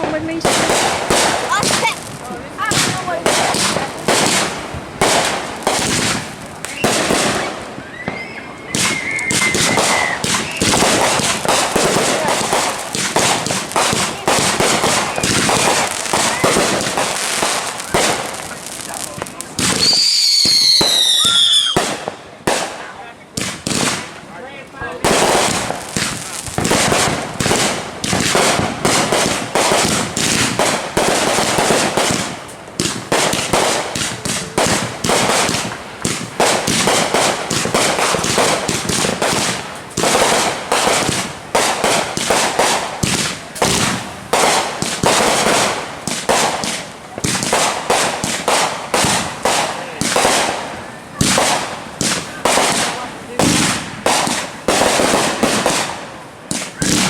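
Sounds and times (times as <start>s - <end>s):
fireworks crackling bangs: 0.0s - 57.0s.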